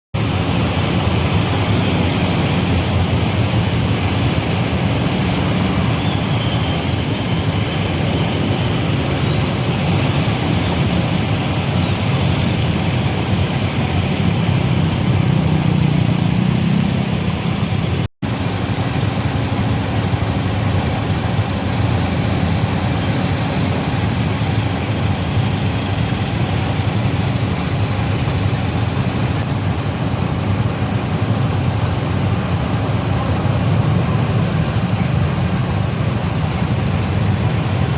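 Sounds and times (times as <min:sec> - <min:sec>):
road traffic: 0:00.2 - 0:37.9.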